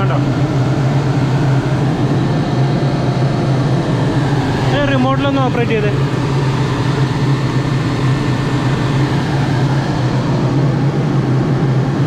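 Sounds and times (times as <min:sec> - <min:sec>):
machine low hum: 0:00.0 - 0:12.0.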